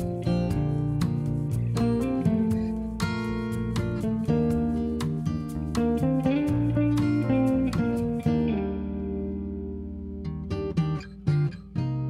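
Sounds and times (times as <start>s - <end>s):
guitar plucked notes: 0.0s - 12.0s.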